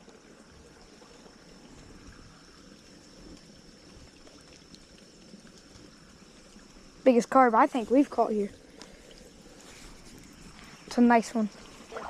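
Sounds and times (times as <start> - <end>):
flowing creek water: 0.0 - 12.0.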